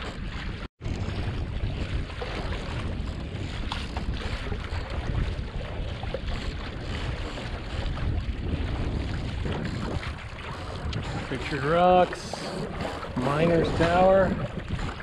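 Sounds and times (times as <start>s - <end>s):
water splashing along hull: 0.0s - 15.0s
wind rumbling on microphone: 0.0s - 15.0s.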